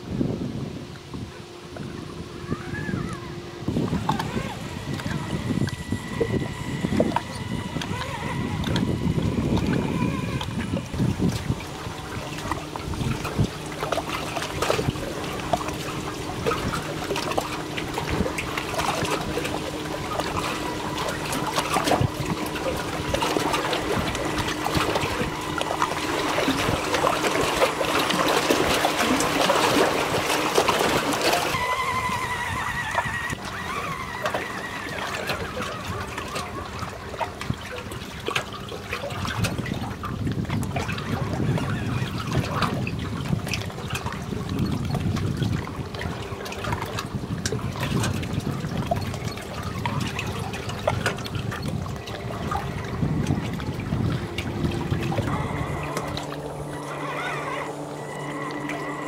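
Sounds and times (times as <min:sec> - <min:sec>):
water lapping against rocks: 0:00.0 - 0:59.0
electric motor humming: 0:01.4 - 0:38.9, 0:49.1 - 0:59.0.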